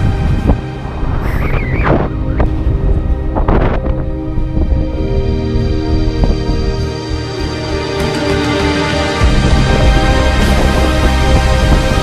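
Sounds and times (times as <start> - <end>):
moody ambient music: 0.0 - 12.0.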